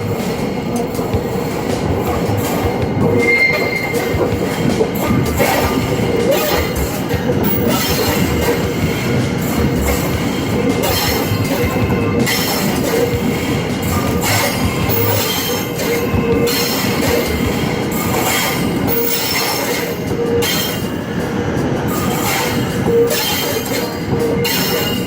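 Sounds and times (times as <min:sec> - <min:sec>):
electric train rumbling on track: 0:00.0 - 0:25.0.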